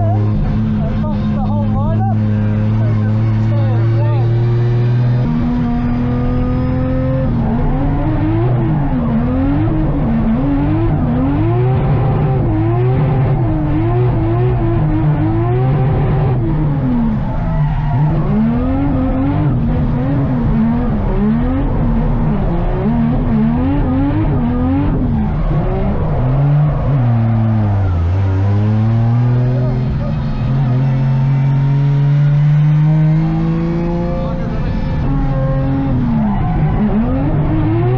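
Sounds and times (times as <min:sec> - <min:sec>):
car engine revving hard: 0:00.0 - 0:37.9
tyres skidding: 0:00.0 - 0:37.9.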